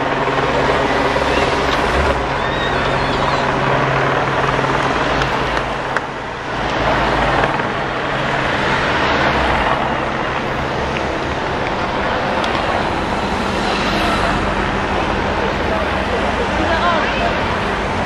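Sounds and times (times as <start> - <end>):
cars and motorcycles passing: 0.0 - 18.0
helicopters droning overhead: 0.0 - 18.0.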